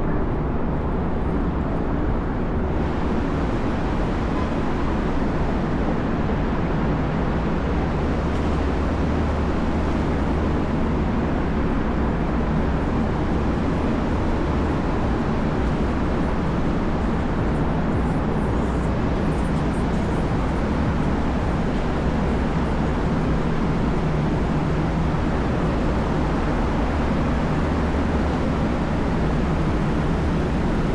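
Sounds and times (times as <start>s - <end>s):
street traffic rumble: 0.0s - 30.9s.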